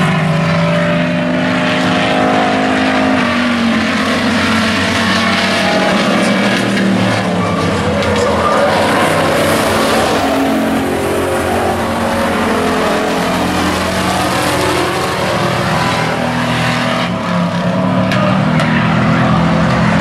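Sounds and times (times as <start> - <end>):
race truck engines passing: 0.0 - 20.0.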